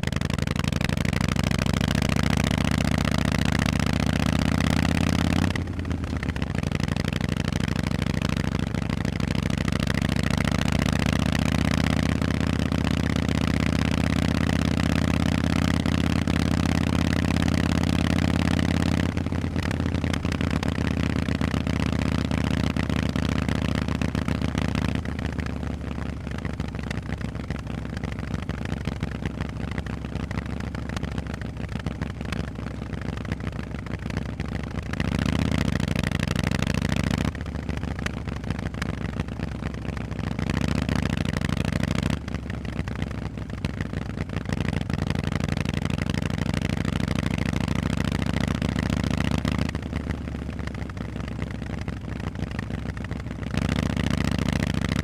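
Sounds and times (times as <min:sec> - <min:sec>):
motorcycle v-twin engine: 0:00.0 - 0:55.0.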